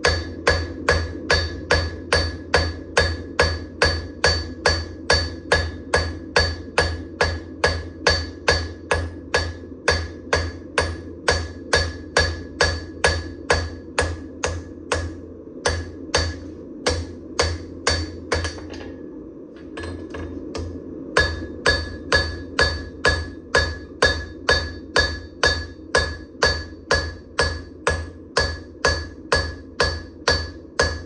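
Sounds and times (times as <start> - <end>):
hammer ringing on steel: 0.0 - 18.7, 19.8 - 31.0
steady low hum: 0.0 - 31.0.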